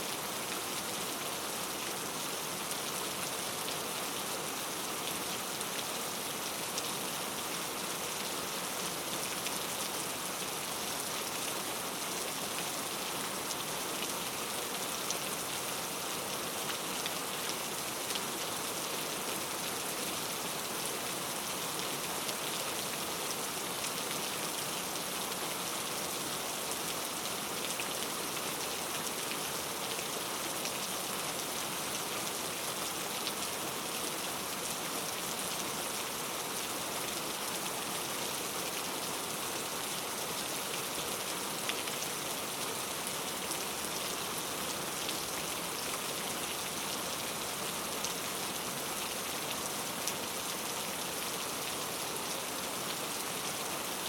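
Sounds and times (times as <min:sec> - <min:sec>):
rain falling on foliage: 0:00.0 - 0:54.0.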